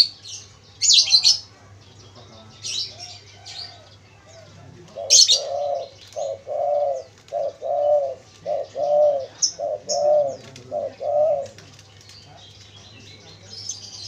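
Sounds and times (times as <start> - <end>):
dove cooing: 0.8 - 14.0.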